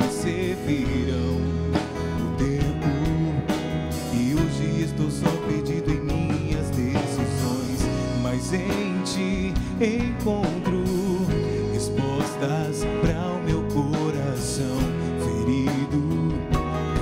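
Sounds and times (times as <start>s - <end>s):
pop band with guitar and drums: 0.0s - 17.0s.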